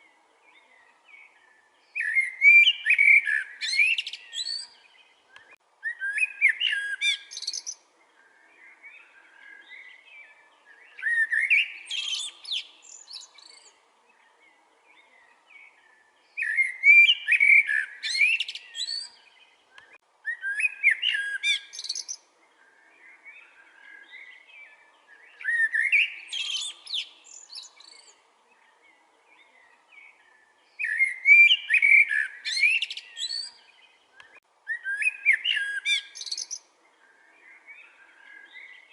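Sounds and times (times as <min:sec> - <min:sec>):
blackbird singing: 0:00.0 - 0:38.9.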